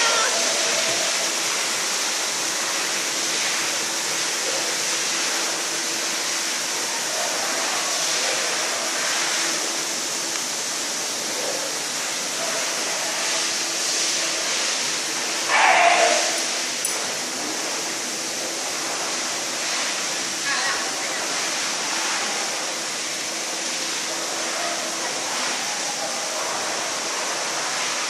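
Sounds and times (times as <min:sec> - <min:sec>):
water pouring into pool: 0:00.0 - 0:28.0.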